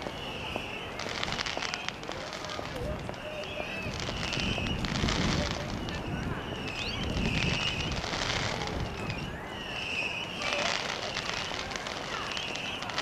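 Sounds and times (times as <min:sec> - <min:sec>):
crackles: 0:00.0 - 0:13.0.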